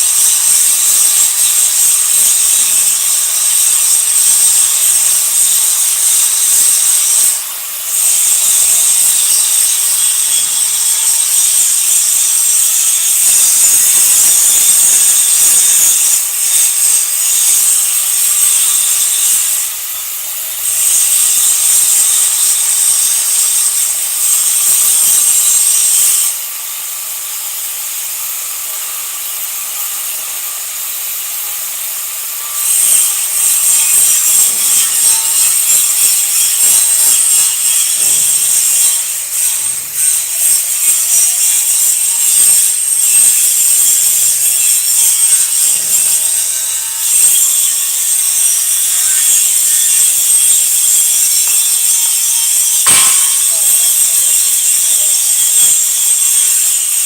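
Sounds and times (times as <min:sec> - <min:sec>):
welding arc hissing and crackling: 0:00.0 - 0:57.0.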